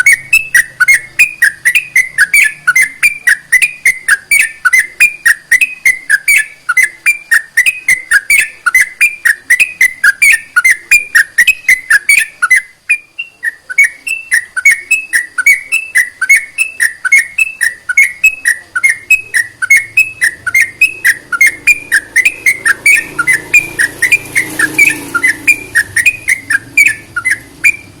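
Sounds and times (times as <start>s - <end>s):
bird whistled calls: 0.0s - 28.0s.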